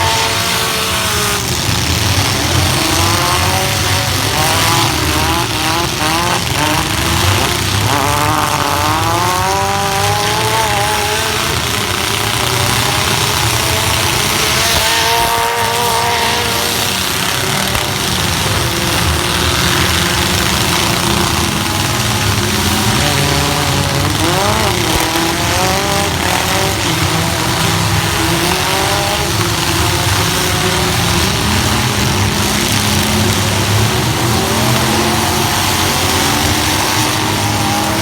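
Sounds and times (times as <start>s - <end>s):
constant din: 0.0s - 38.0s
truck engines revving: 0.0s - 38.0s.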